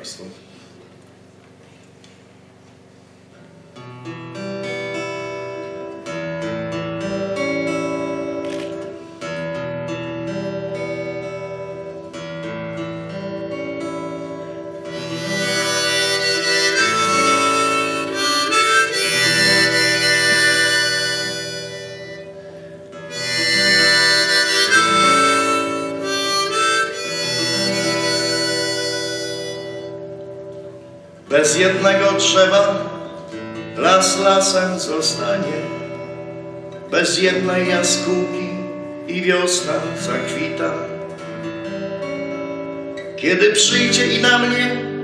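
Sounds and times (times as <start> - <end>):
acoustic guitar picking: 0.0 - 45.0
harmonica melody: 4.0 - 45.0.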